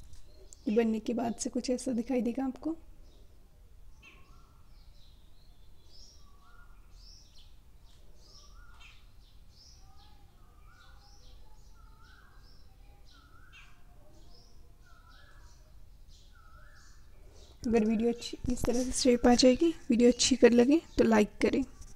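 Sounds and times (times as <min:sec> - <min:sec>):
faint birds chirping: 0:00.0 - 0:21.9.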